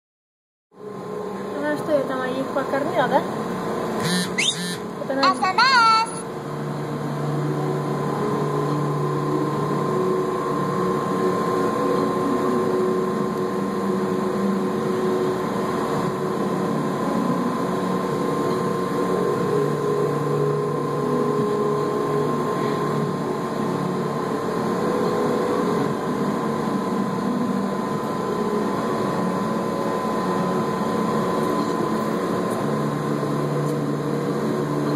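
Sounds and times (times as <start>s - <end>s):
mechanical drone: 0.8s - 34.9s
steady high tone: 0.8s - 34.9s.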